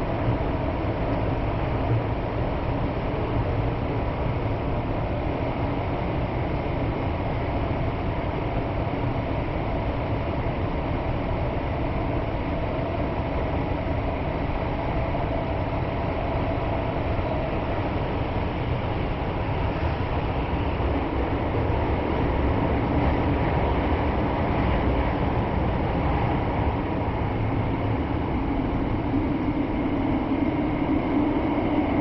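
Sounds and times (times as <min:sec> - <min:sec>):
train wheel and rail rumble: 0:00.0 - 0:32.0.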